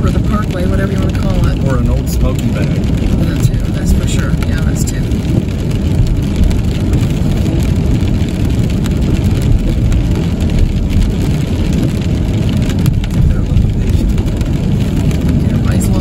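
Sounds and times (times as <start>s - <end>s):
car driving on wet road: 0.0s - 16.0s
rain striking windshield: 0.0s - 16.0s.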